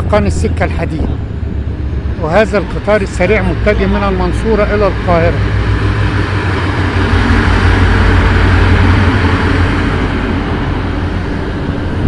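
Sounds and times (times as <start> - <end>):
train passing rumble: 0.0 - 12.0.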